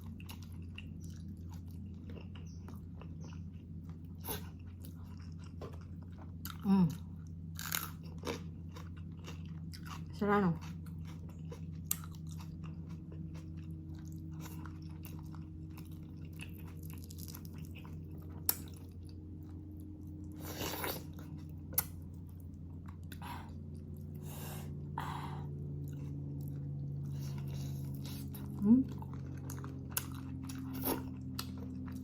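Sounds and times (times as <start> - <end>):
chewing and biting: 0.0 - 32.0
steady low hum: 0.0 - 32.0.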